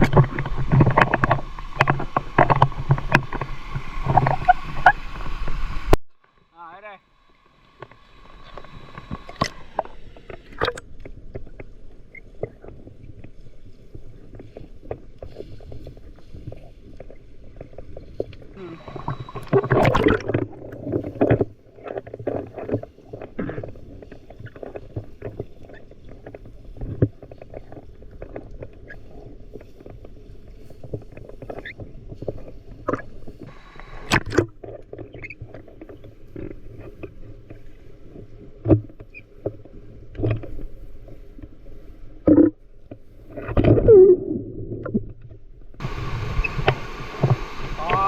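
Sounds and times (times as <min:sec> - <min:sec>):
water splashing and sloshing: 0:00.0 - 0:48.0.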